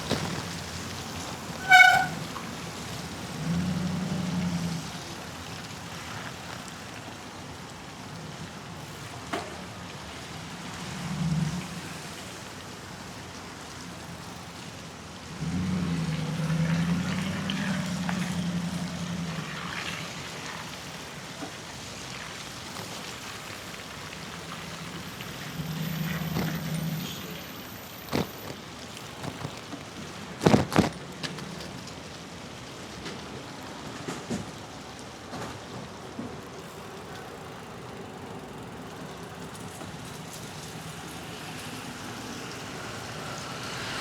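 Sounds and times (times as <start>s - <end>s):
bicycle tyres hissing on wet pavement: 0.0s - 44.0s
passing motor traffic hum: 0.0s - 44.0s.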